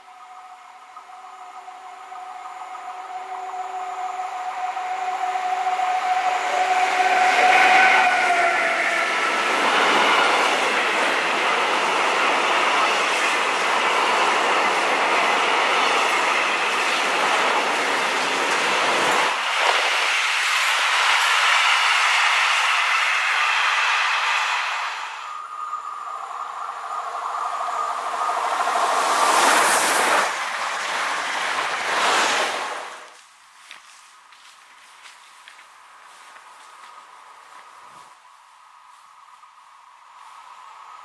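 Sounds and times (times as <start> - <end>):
electric locomotive whine: 0.0 - 41.0
train wheels rumbling on rails: 0.9 - 38.2.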